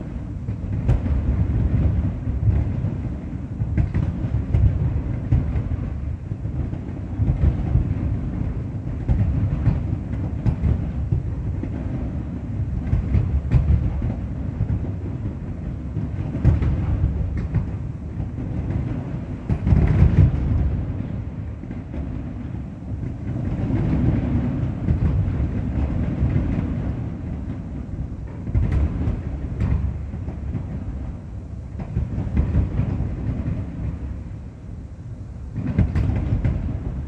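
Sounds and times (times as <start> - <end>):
sharp fireworks cracks: 0.0 - 34.7, 35.5 - 37.0
fireworks booming: 0.0 - 34.8, 35.5 - 37.0.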